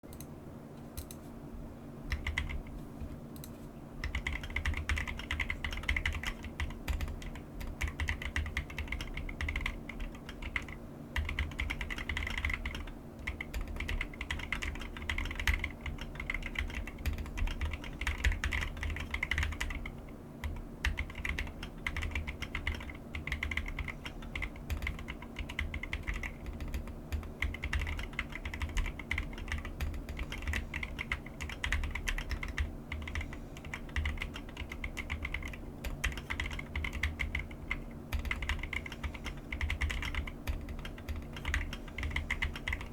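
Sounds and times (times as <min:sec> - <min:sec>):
keyboard typing: 0:01.0 - 0:01.2, 0:02.1 - 0:02.6, 0:03.4 - 0:42.9.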